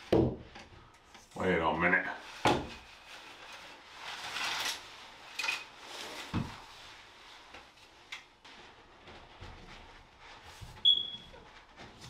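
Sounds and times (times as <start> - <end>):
curtain rod rustling and scraping: 2.2 - 12.0.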